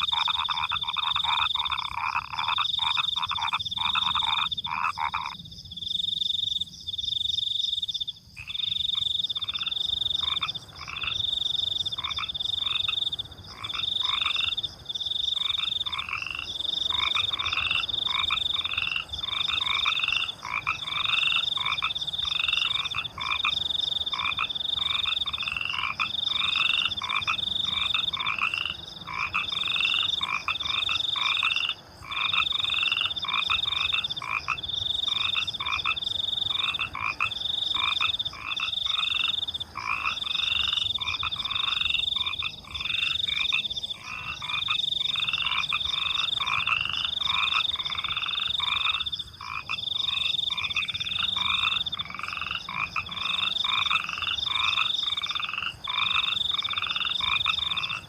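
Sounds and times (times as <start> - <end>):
crickets chirping: 0.0 - 58.0
frogs croaking: 0.0 - 58.0.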